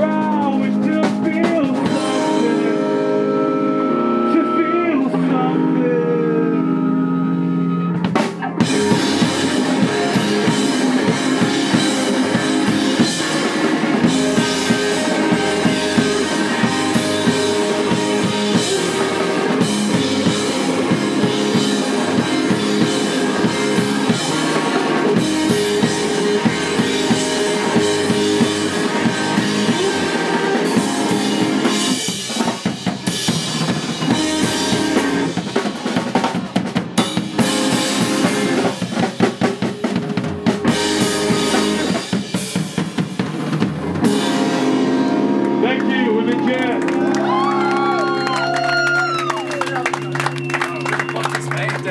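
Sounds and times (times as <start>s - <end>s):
rock band playing: 0.0s - 51.9s.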